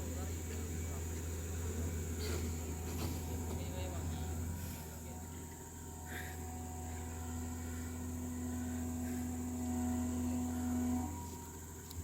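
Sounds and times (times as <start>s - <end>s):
heavy machine engine drone: 0.0s - 12.0s
machine whine: 0.0s - 12.0s.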